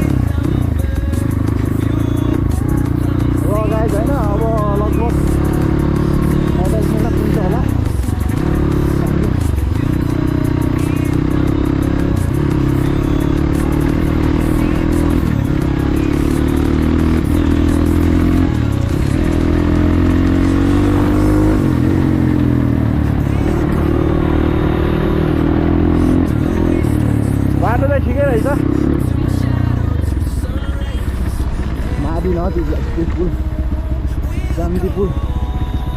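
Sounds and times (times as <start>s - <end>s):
clattering over rough road: 0.0s - 35.9s
motorcycle engine revving: 0.0s - 35.9s.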